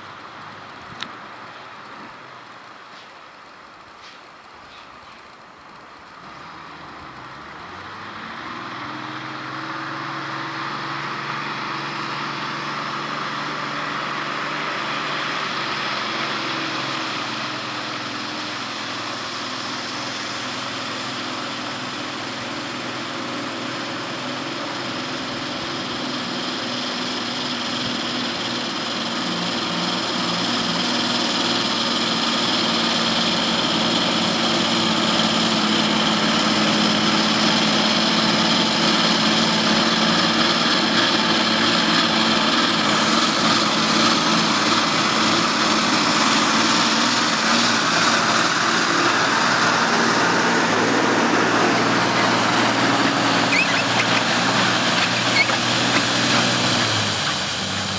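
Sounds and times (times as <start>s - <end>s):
truck engine running: 5.2s - 57.9s.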